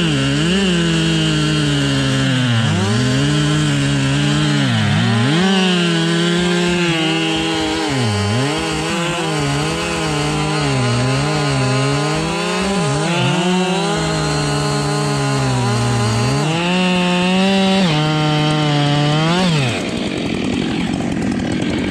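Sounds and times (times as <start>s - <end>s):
chainsaw cutting branches: 0.0s - 21.9s.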